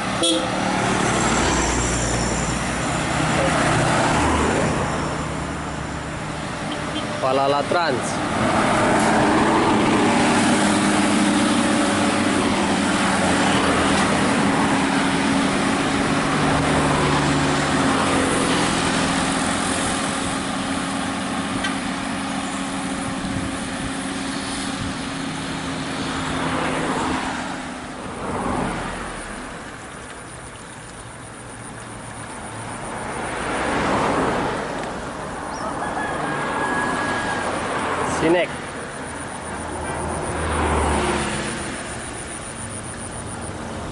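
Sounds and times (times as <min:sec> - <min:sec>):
diesel bus engine: 0:00.0 - 0:43.9
vehicles rushing past: 0:00.0 - 0:43.9.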